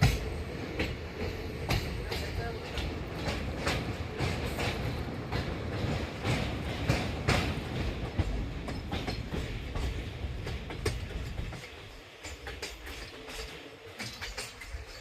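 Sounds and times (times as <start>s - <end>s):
train rumbling on track: 0.0s - 15.0s
wheels clacking over rail joints: 0.0s - 15.0s.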